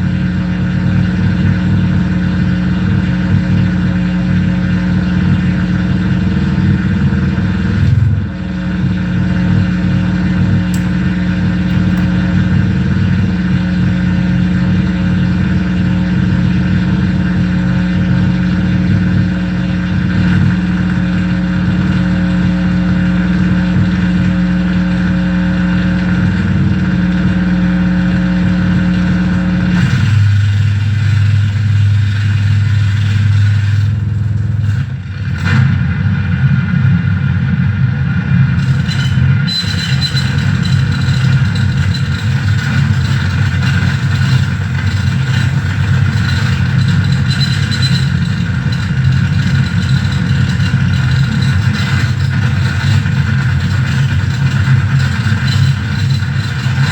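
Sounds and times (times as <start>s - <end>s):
loud low feedback drone: 0.0s - 56.9s.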